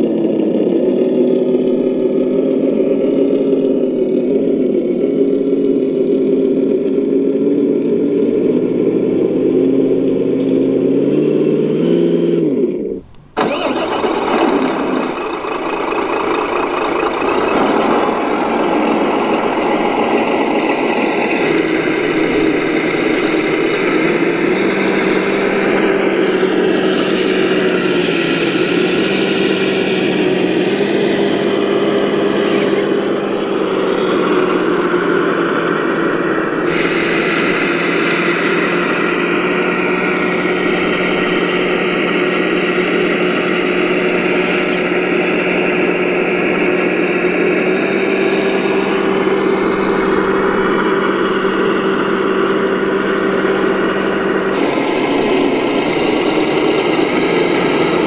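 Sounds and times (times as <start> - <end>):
model truck motor drone: 0.0 - 58.0.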